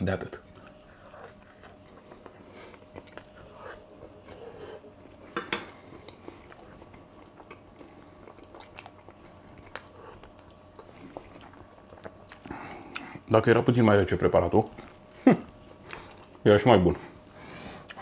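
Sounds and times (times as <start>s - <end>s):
person chewing food: 0.4s - 13.3s, 14.6s - 16.4s.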